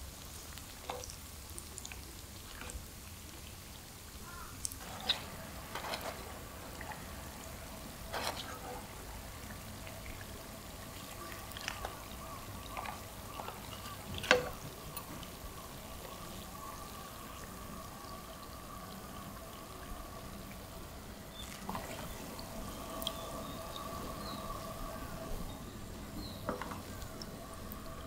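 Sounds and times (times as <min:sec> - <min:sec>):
oil sizzling and bubbling: 0:00.0 - 0:28.0.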